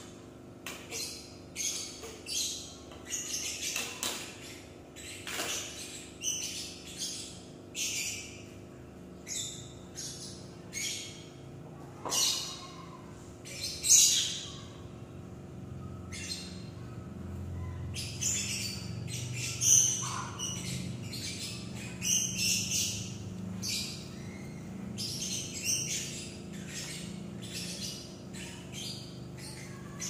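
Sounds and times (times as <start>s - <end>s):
birds chirping: 0.7s - 30.0s
steady low hum: 4.3s - 30.0s.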